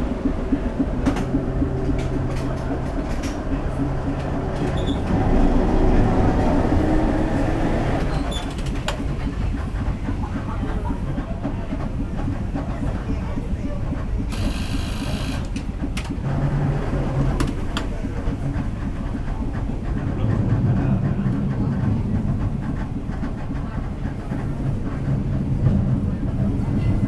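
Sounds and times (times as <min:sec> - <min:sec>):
streetcar rumbling on rails: 0:00.0 - 0:27.0.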